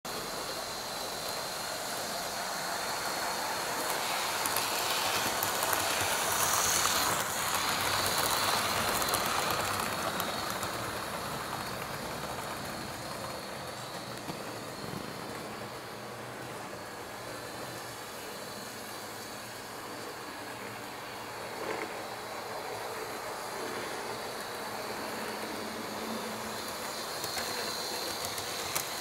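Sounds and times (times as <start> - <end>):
faint motor whine: 0.1 - 29.0
model train wheels rumbling: 0.1 - 29.0.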